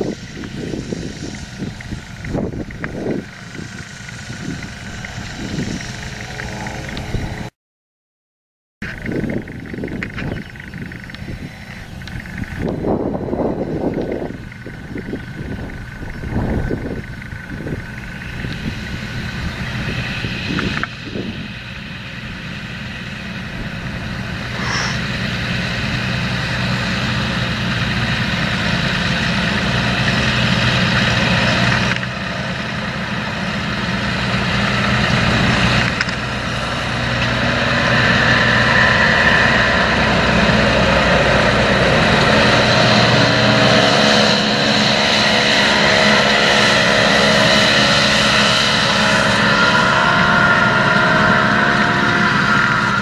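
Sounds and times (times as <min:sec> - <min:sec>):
tractor diesel engine running: 0:00.0 - 0:07.5, 0:08.8 - 0:53.0.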